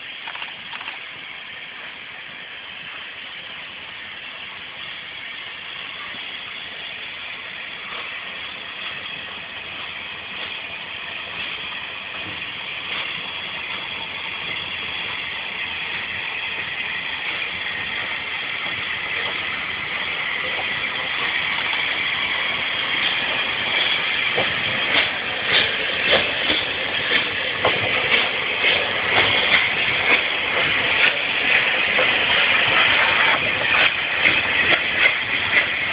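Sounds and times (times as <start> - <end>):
steam hissing: 0.0 - 35.9
steam locomotive exhaust beats: 0.0 - 35.9.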